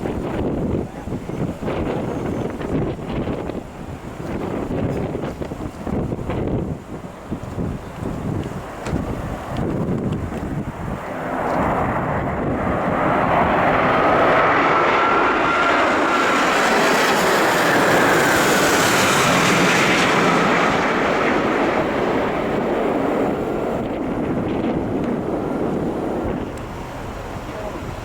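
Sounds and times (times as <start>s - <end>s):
high engine whine: 0.0s - 28.0s
jet airliner passing: 0.0s - 28.0s.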